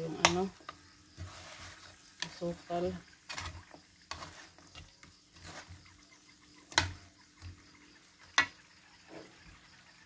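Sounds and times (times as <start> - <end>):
metal spatula scraping wok: 0.0 - 9.5.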